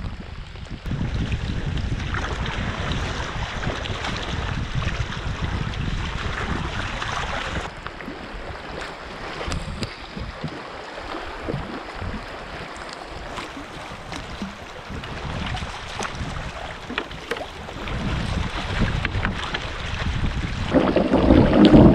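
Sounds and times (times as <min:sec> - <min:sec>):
rain on water: 0:00.0 - 0:21.9
wind buffeting microphone: 0:00.0 - 0:21.9.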